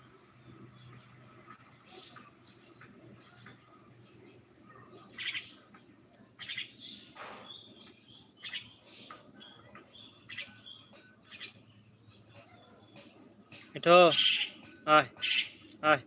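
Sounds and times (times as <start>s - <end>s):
small bird chirping: 0.4s - 13.2s, 14.1s - 15.8s.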